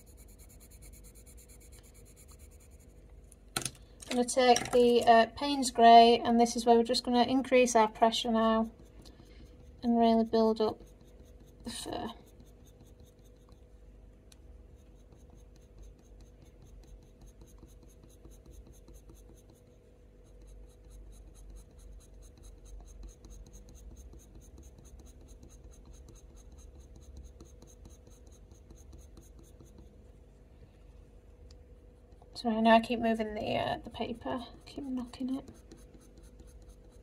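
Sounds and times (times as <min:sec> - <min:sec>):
faint pencil scratching on paper: 0:00.0 - 0:03.1, 0:05.1 - 0:37.0.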